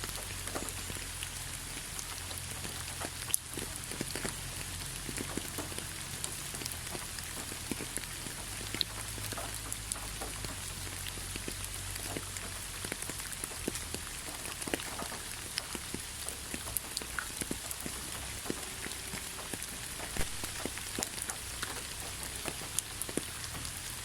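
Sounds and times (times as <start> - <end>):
rain drops pattering: 0.0 - 24.0.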